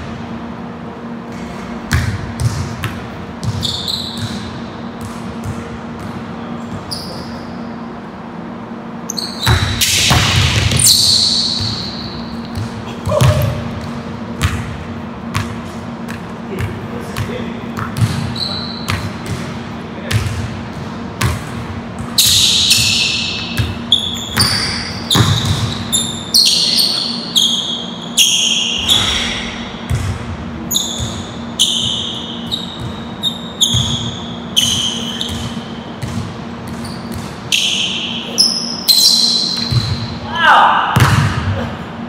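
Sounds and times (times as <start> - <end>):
sneakers squeaking: 0.0 - 41.8
steady low hum: 0.0 - 42.0.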